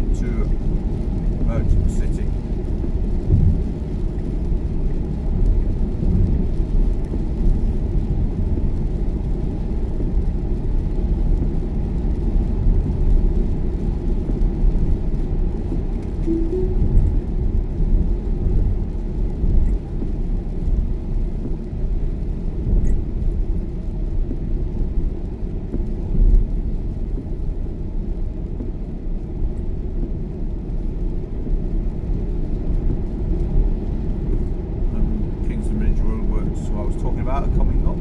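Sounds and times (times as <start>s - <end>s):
road and tyre noise in car: 0.0s - 38.0s.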